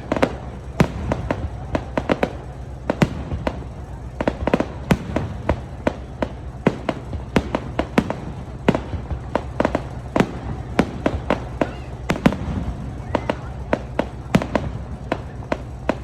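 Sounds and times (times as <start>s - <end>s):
fireworks bangs and crackling pops: 0.0s - 16.0s.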